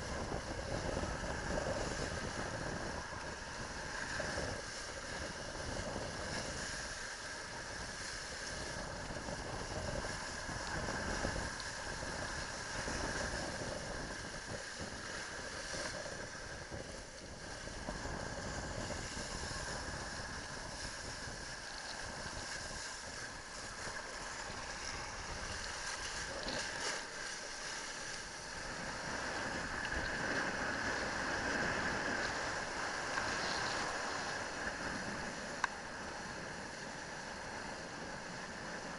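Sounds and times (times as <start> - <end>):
wind buffeting microphone: 0.0 - 36.6
water rushing under kiteboard: 0.0 - 38.9.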